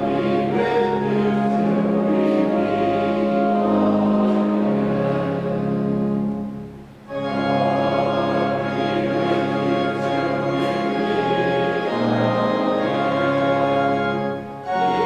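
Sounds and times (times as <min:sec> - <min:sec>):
church organ chords: 0:00.0 - 0:15.0
congregation singing a hymn: 0:00.0 - 0:15.0.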